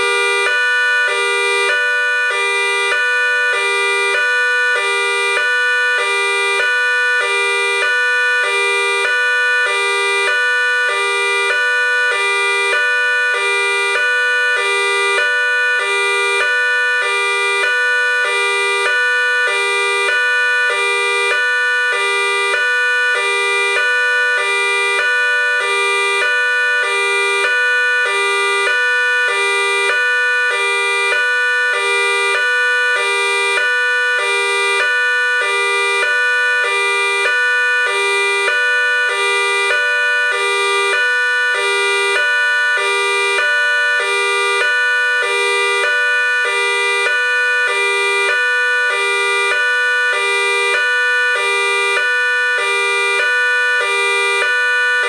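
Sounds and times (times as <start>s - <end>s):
two-tone electronic siren: 0.0s - 55.0s.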